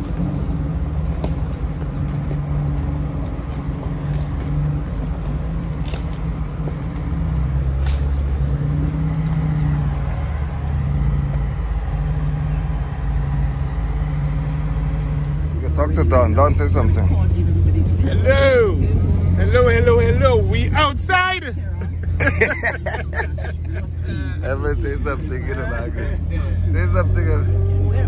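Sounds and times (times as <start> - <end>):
off-road vehicle engine droning: 0.0 - 28.0.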